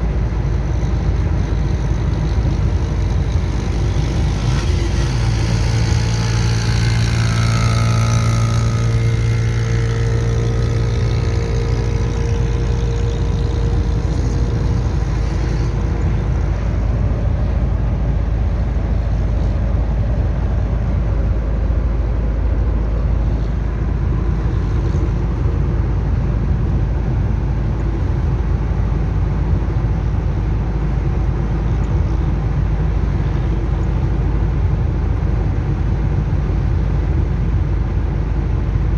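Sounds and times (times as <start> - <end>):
diesel engine running with whine: 0.0 - 38.9.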